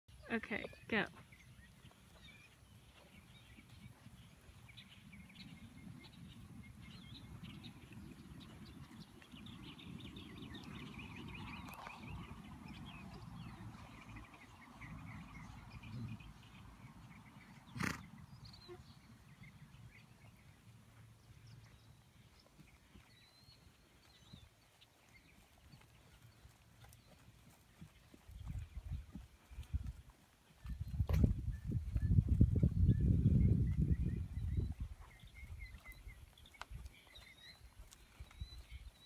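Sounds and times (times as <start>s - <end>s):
small birds chirping: 0.1s - 39.0s.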